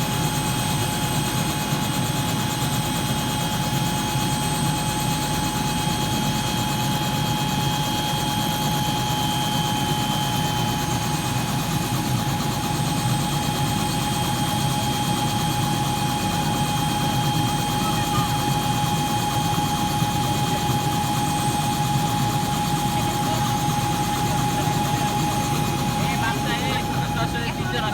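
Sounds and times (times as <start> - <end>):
helicopter turbine whine: 0.0 - 27.9.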